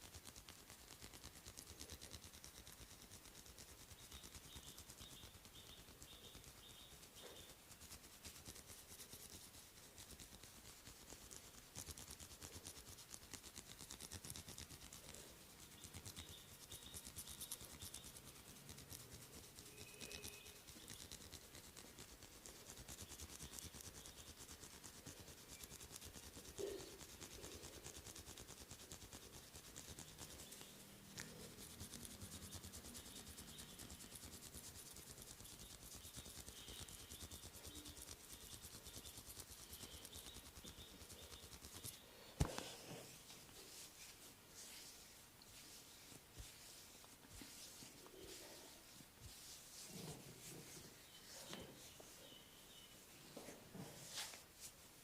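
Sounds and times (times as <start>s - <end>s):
hands rubbing skin and hair: 0.1s - 55.0s.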